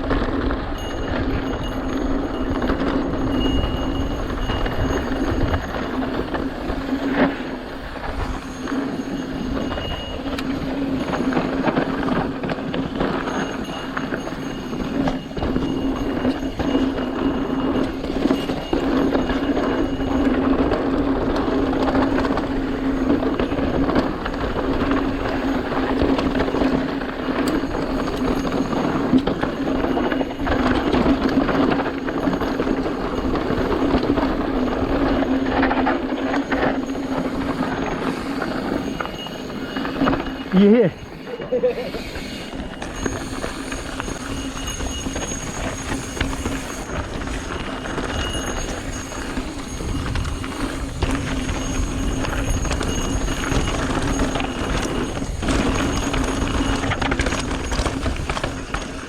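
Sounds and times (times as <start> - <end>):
bike rattling over bumps: 0.0 - 59.0
bike tyres rolling on dirt: 0.0 - 59.0.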